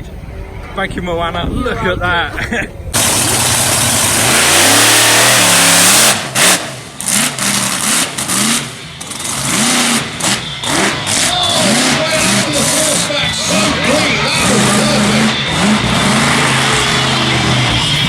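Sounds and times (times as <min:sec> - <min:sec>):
monster truck engine revving: 0:03.0 - 0:18.0.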